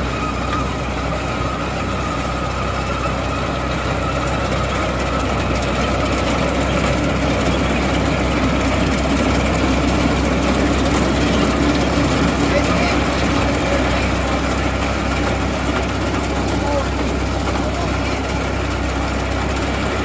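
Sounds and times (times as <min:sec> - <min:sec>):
tractor engine running steadily: 0:00.0 - 0:20.0.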